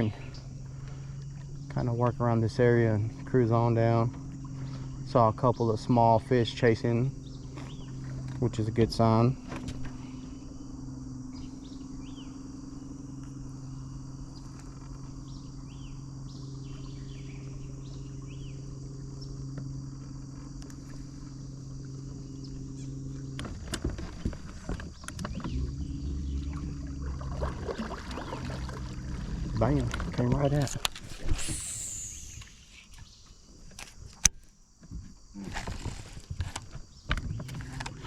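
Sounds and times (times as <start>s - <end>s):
birds chirping: 0.0s - 33.6s
boat motor humming: 0.0s - 33.7s, 34.6s - 38.0s.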